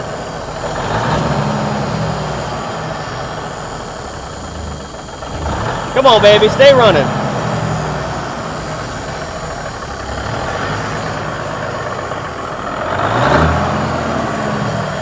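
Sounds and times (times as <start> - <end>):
diesel engine running unevenly: 0.0 - 15.0.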